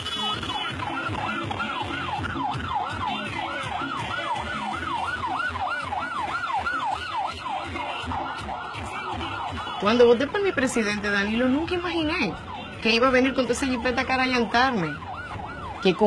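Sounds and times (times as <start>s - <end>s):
siren fast wail: 0.0s - 16.0s.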